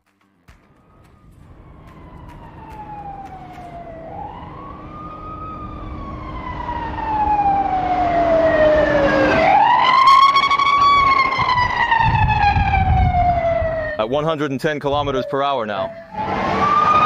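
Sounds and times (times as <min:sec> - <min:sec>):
wailing siren: 0:00.6 - 0:17.0.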